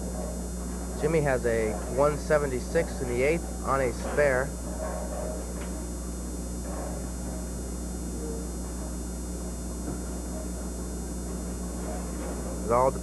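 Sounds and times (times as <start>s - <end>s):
electrical mains hum: 0.0s - 13.0s
thin high buzz: 0.0s - 13.0s.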